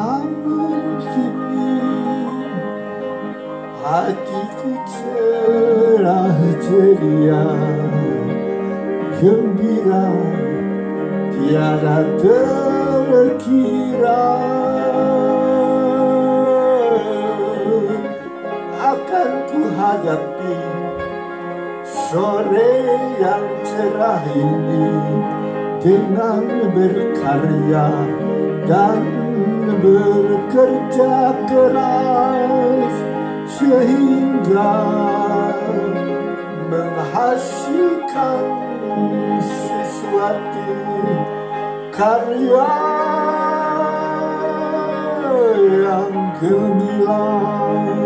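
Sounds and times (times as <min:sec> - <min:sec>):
man singing: 0:00.0 - 0:48.0
upright piano playing: 0:00.0 - 0:48.0.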